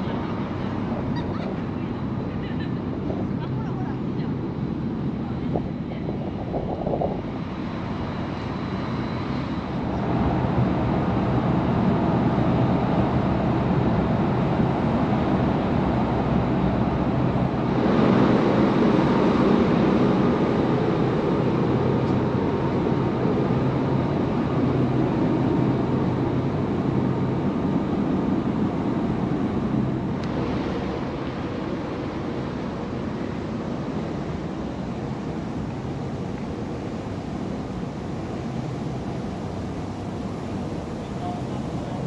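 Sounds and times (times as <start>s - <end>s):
faint steady hum: 0.0s - 42.0s
rushing wind: 0.0s - 42.0s.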